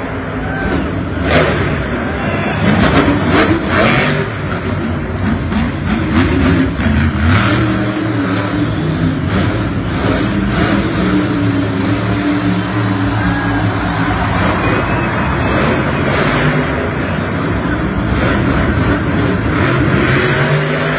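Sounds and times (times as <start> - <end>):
truck engines revving hard: 0.0 - 20.9.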